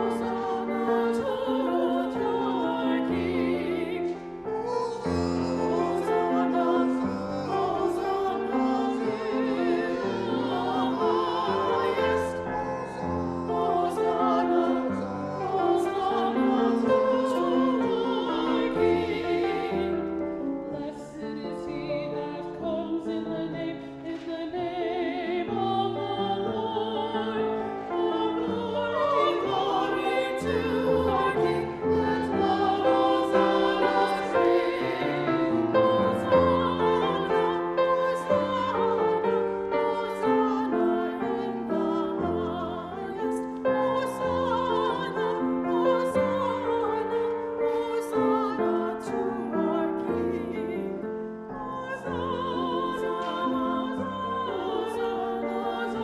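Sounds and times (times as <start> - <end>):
voices singing sacred music: 0.0 - 56.0.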